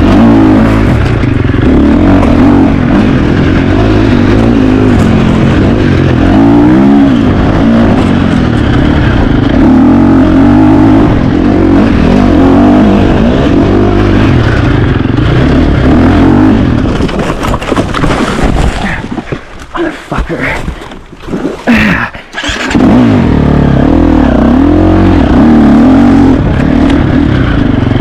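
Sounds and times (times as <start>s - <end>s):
dirt bike engine revving: 0.0s - 18.4s, 21.7s - 28.0s.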